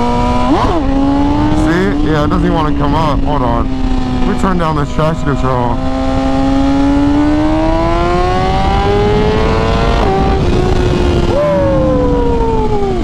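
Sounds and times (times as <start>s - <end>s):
wind rumble on microphone: 0.0s - 4.4s, 5.7s - 13.0s
motorcycle engine accelerating: 0.0s - 13.0s.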